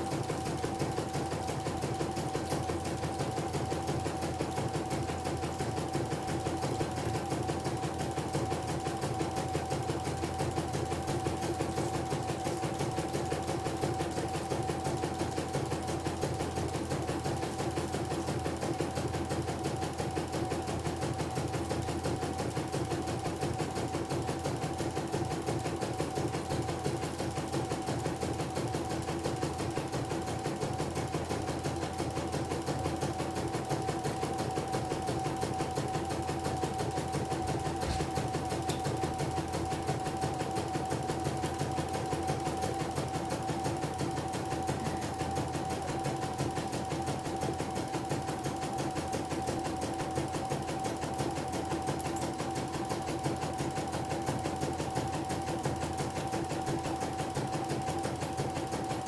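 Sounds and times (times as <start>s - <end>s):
motor hum: 0.0s - 59.0s.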